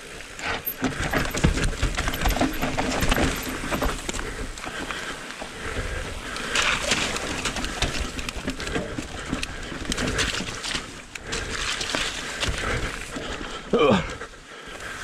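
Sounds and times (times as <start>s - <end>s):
bike tyres rolling on dirt: 0.0s - 15.0s
bike rattling and knocking: 0.4s - 14.2s.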